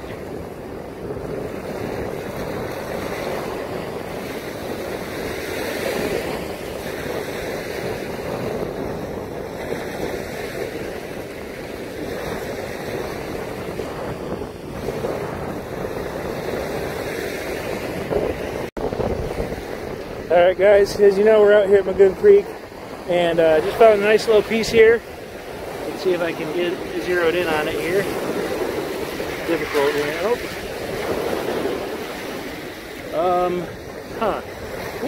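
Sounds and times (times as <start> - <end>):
waves washing on pebbly beach: 0.0 - 21.2, 21.8 - 35.0
wind buffeting microphone: 0.0 - 35.0.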